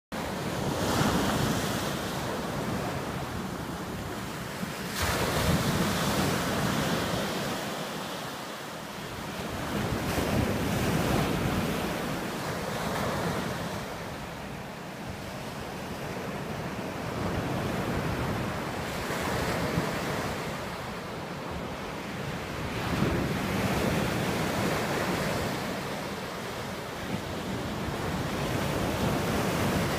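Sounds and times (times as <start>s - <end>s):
surf washing up beach: 0.2s - 29.9s.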